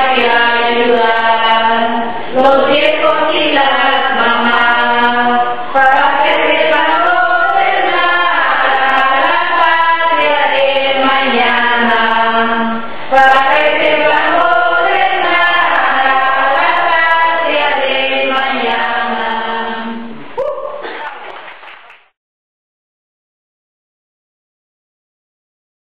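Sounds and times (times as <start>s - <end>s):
group of people singing: 0.0s - 21.0s.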